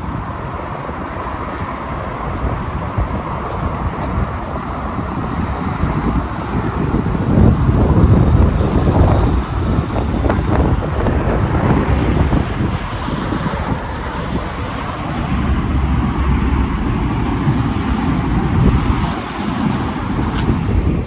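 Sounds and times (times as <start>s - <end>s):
road traffic noise: 0.0s - 21.0s
wind buffeting microphone: 0.0s - 21.0s.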